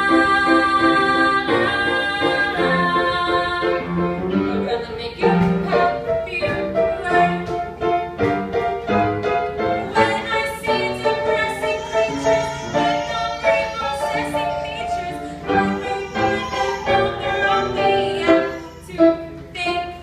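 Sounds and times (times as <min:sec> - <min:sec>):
woman singing: 0:00.0 - 0:07.8, 0:09.6 - 0:20.0
grand piano: 0:00.0 - 0:20.0.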